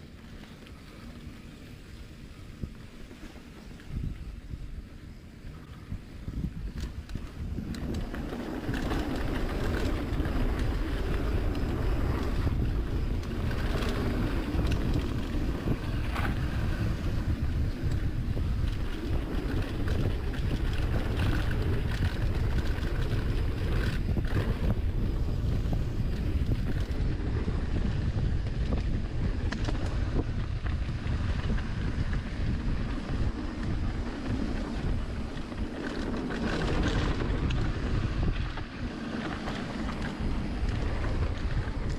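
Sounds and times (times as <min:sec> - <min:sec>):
bike knocking and rattling: 0:00.0 - 0:41.9
tyres rumbling on dirt trail: 0:00.0 - 0:41.9
wind buffeting microphone: 0:00.8 - 0:41.9.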